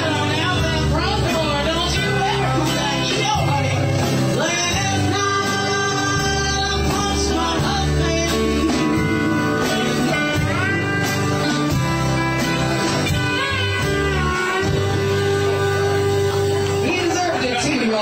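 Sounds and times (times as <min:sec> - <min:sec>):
acoustic guitar: 0:00.0 - 0:18.0
electric bass: 0:00.0 - 0:18.0.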